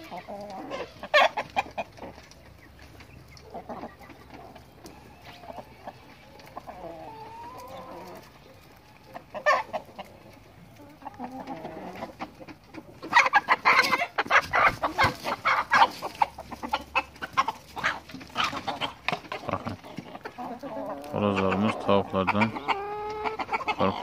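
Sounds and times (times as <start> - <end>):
chickens clucking: 0.0 - 24.0
hens squawking and cackling: 0.0 - 24.0.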